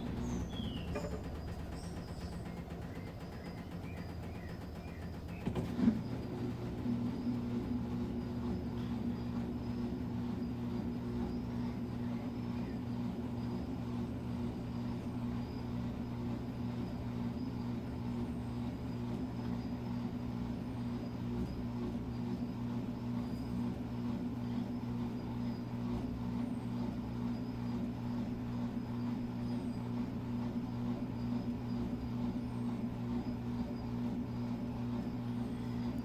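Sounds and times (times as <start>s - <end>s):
washing machine motor hum: 0.0s - 36.0s.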